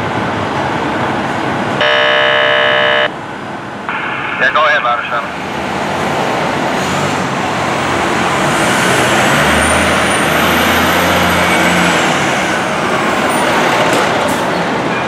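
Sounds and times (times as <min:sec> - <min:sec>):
fire truck engine running: 0:00.0 - 0:13.2
road noise: 0:00.0 - 0:15.0.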